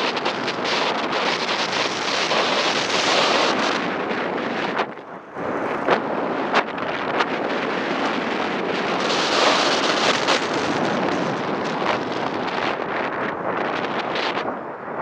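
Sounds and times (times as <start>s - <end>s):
bike tyres rolling on gravel: 0.0s - 14.5s
wind rushing over microphone: 0.0s - 15.0s.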